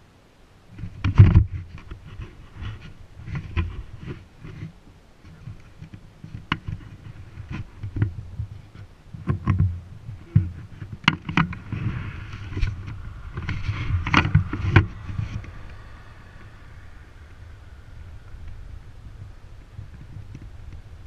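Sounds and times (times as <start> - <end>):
wind buffeting a microphone: 0.7 - 21.0.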